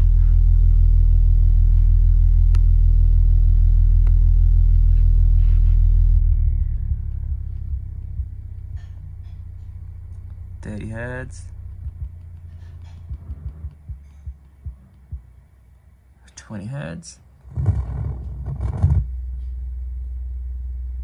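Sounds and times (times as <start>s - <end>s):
deep bass test tone: 0.0s - 15.5s, 17.5s - 21.0s.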